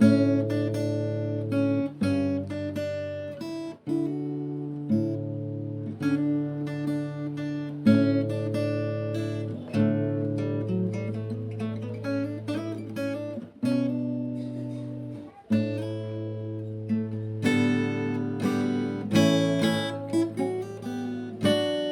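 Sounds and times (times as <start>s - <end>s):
acoustic guitar: 0.0s - 21.9s.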